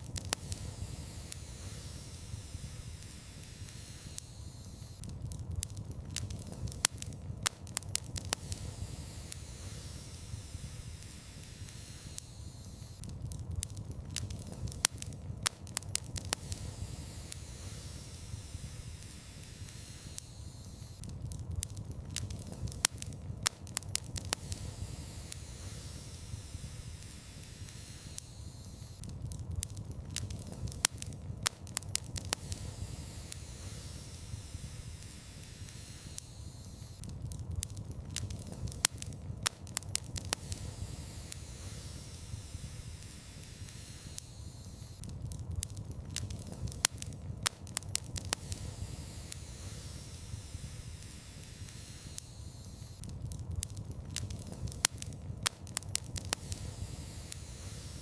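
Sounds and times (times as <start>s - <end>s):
fire crackling and popping: 0.0s - 58.0s
fire rumbling and hissing: 0.0s - 58.0s.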